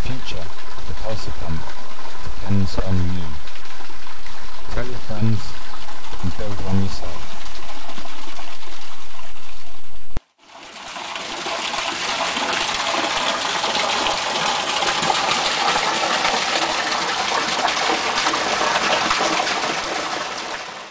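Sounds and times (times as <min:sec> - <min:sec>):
water pouring into a stone pit: 0:00.0 - 0:09.7, 0:10.4 - 0:20.9.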